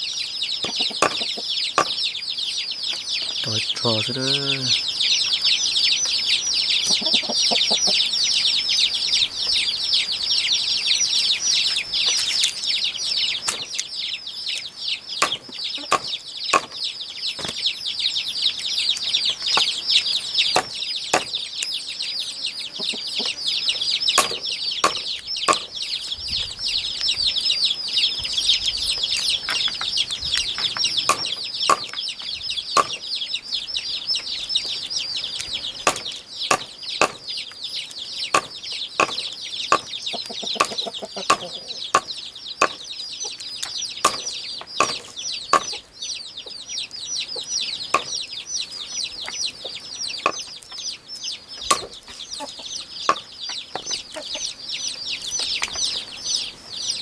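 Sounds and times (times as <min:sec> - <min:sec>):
chorus of high chirps: 0:00.0 - 0:57.0.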